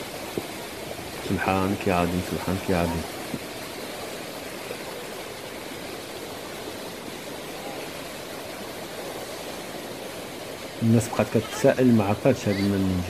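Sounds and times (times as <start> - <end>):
runoff water cascading over rocks: 0.0 - 13.0.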